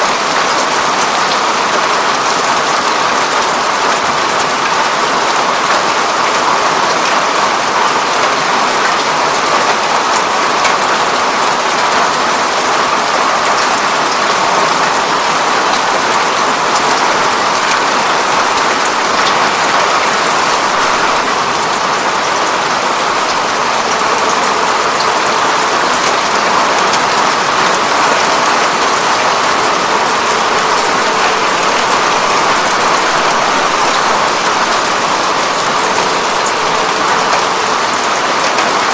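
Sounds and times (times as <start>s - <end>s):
rain on a window pane: 0.0s - 38.9s.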